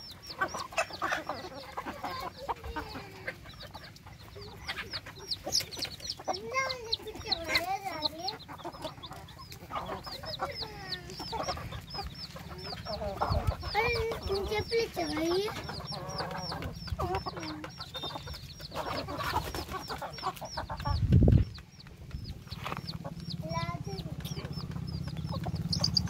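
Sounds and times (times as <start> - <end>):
chicks peeping: 0.0 - 26.0
hens clucking: 0.0 - 26.0.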